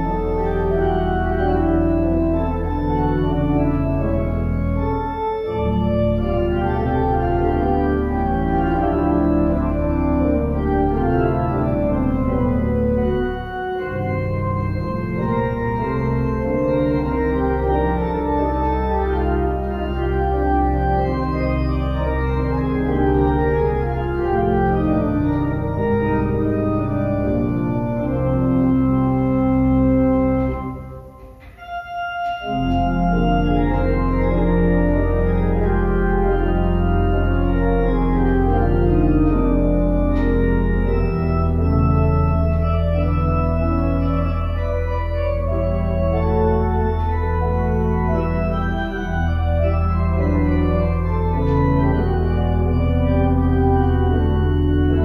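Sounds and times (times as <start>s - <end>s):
church organ playing chords: 0.0s - 55.0s.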